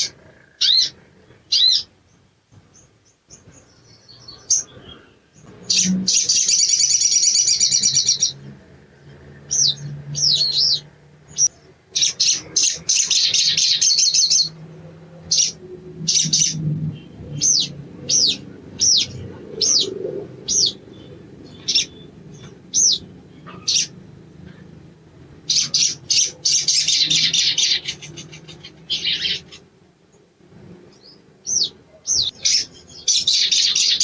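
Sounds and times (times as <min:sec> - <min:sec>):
bird chattering trills: 0:00.0 - 0:01.9, 0:03.3 - 0:14.6, 0:15.2 - 0:24.7, 0:25.4 - 0:29.7, 0:31.5 - 0:34.0.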